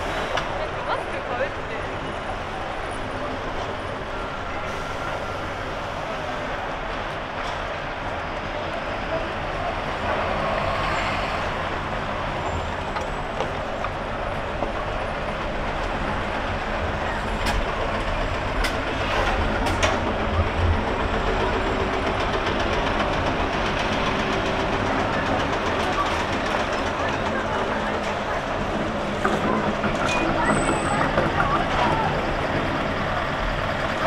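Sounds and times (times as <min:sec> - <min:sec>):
rumble of passing vehicles: 0:00.0 - 0:34.0.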